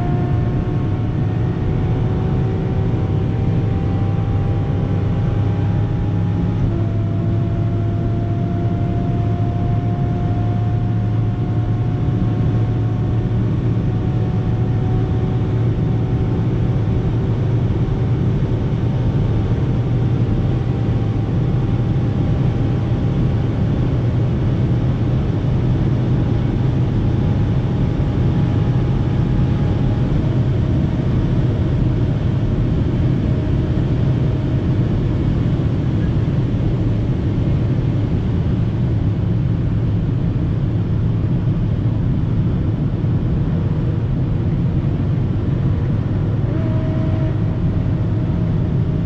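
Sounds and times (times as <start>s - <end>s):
car engine deep rushing drone: 0.0s - 49.0s.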